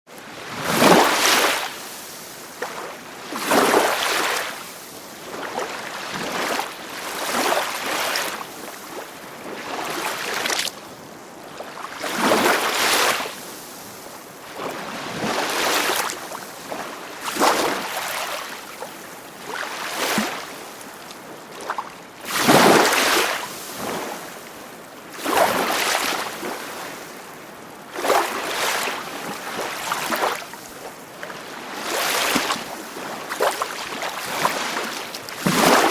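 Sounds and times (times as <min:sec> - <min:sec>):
sea waves washing in and out: 0:00.2 - 0:35.9.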